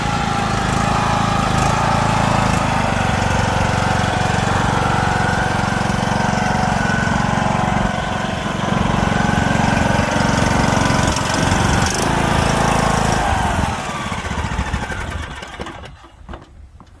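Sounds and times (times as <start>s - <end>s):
riding mower engine running: 0.0s - 16.5s.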